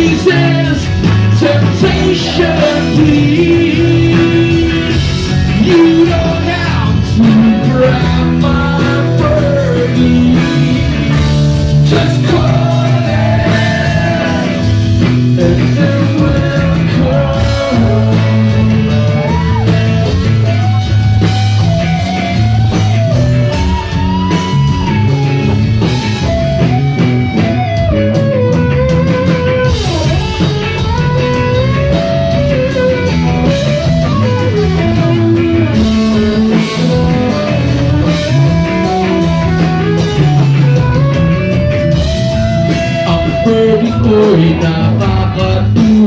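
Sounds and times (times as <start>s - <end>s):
bass guitar: 0.0s - 46.0s
drum kit: 0.0s - 46.0s
lead guitar bending notes: 0.0s - 46.0s.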